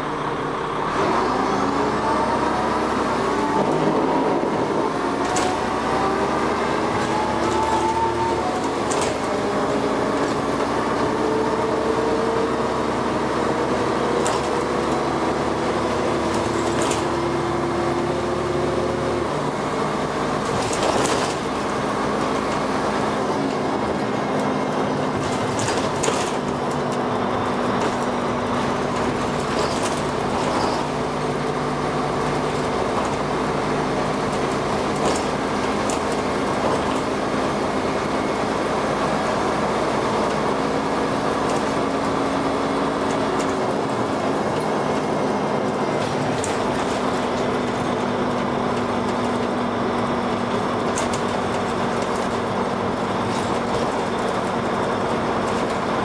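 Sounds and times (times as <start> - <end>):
bus engine pulling: 0.0 - 56.0.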